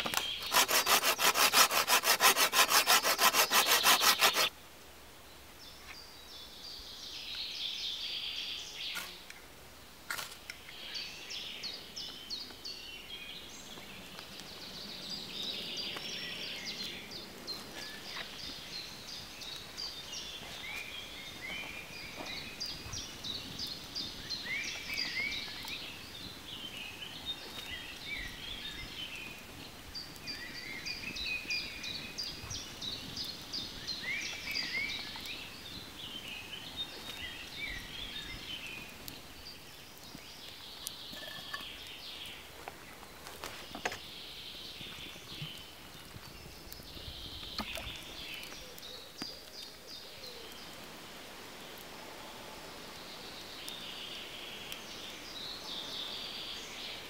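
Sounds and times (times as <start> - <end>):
small songbirds singing: 0.0 - 4.5, 10.5 - 50.9, 52.8 - 57.0.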